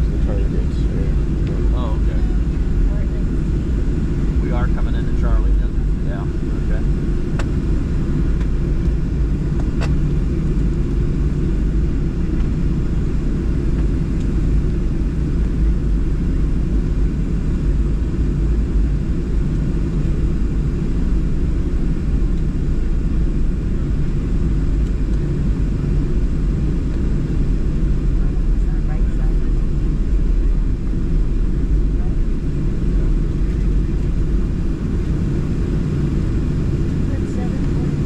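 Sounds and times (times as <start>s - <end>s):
aircraft cabin low rumble: 0.0s - 38.0s.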